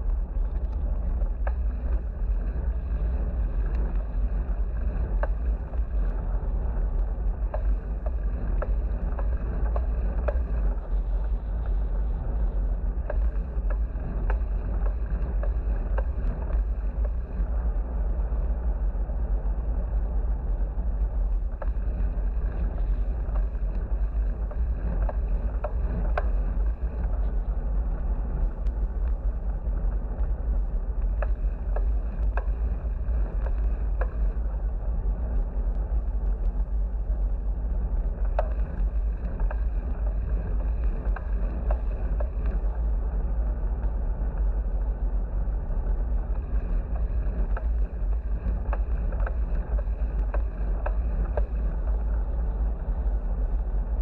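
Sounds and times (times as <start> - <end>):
light ticks: 0.0 - 54.0
wind buffeting microphone: 0.0 - 54.0.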